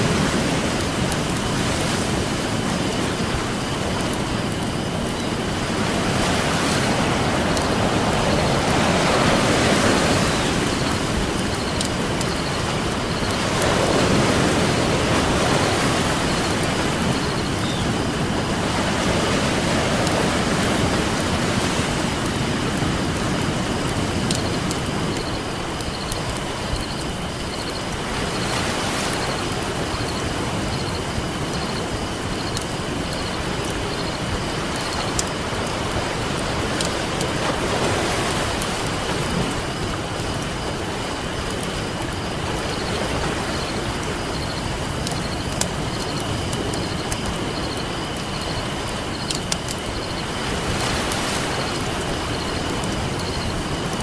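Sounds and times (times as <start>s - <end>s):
campfire crackling: 0.0s - 28.1s, 30.6s - 50.3s
ocean surf washing: 0.0s - 54.0s.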